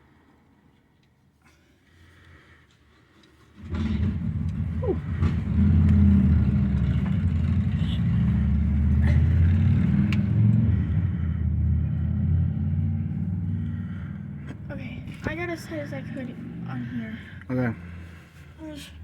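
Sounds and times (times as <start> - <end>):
vehicle engine running: 3.6 - 19.0.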